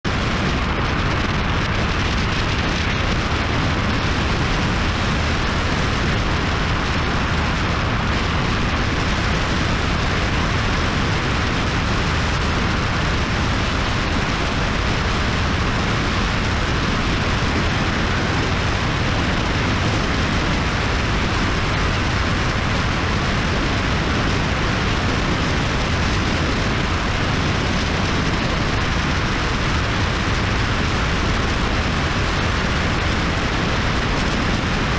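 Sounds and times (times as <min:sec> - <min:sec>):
motorcycle engine and tyres rumble: 0:00.0 - 0:34.9
wind rushing: 0:00.0 - 0:34.9.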